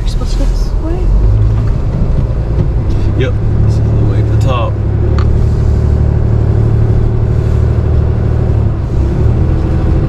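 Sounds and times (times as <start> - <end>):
truck engine running under load: 0.6 - 10.0.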